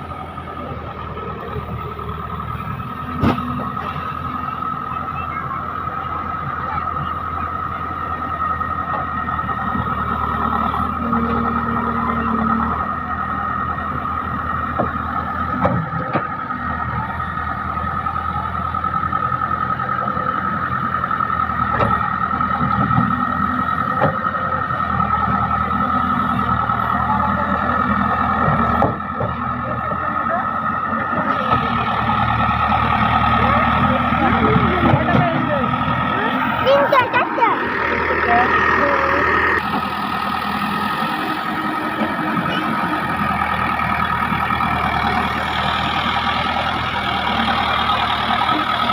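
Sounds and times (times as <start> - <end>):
diesel engine rumble: 0.0 - 48.9.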